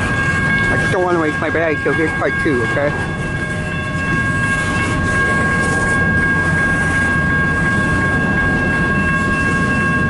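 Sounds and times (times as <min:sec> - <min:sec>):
freight train rumble: 0:00.0 - 0:10.0
high-pitched whine: 0:00.0 - 0:10.0.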